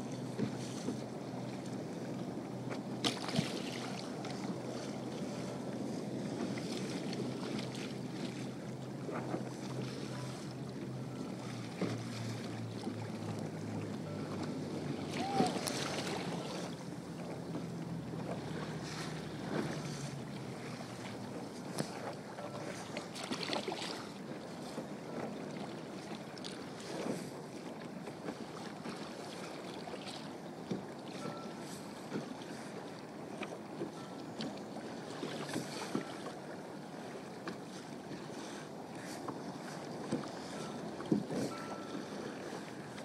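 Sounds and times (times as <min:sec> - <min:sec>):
water slapping and splashing: 0:00.0 - 0:43.0.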